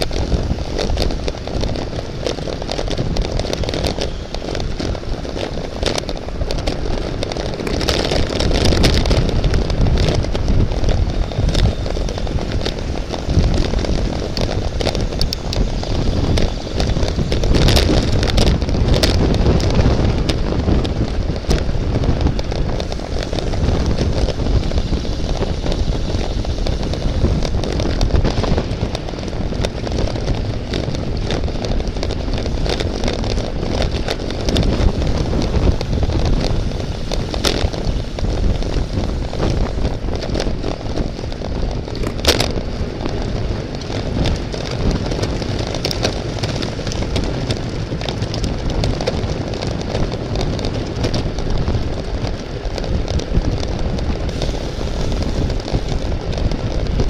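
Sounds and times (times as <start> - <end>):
bicycle tyre road noise: 0.0 - 57.0
wind buffeting microphone: 0.0 - 57.0.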